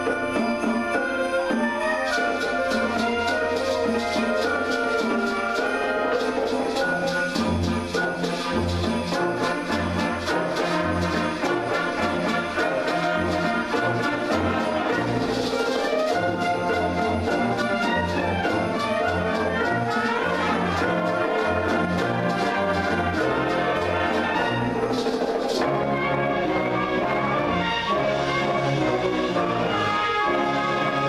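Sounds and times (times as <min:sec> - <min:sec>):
steady percussion beat: 0:00.0 - 0:30.0
brass melody: 0:00.0 - 0:31.0
wind band playing light music: 0:00.0 - 0:31.0.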